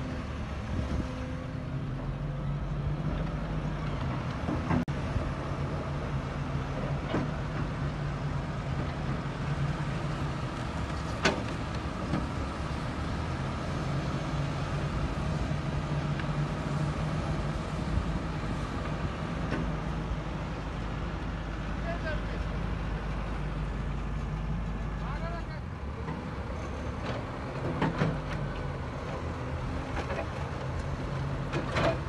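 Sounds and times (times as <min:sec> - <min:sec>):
diesel machinery engines running: 0:00.0 - 0:32.0.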